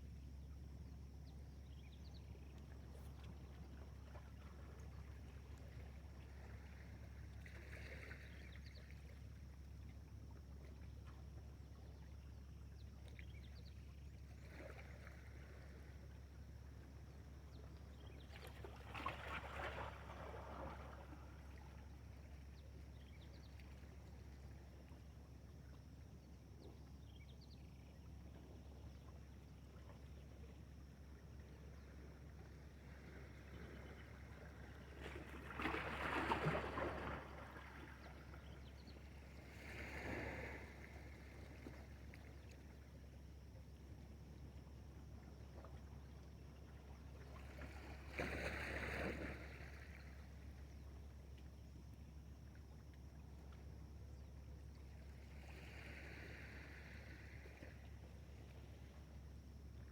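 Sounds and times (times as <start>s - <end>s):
faint water splashes: 0.0s - 59.9s.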